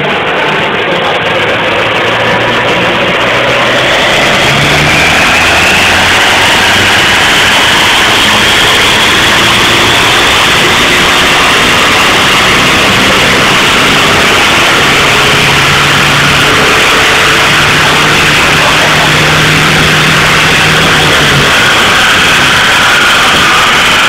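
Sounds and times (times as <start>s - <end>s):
diesel engine running under load: 0.0s - 24.0s
high turbo whine: 0.0s - 24.0s.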